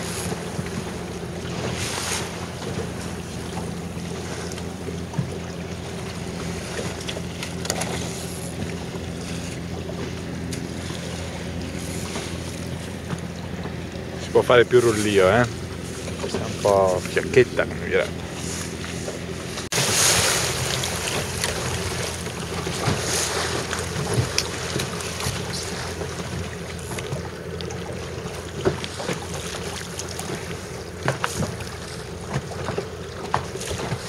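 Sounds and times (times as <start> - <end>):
steady low hum: 0.0 - 34.0
water splashing against boat: 0.0 - 34.0.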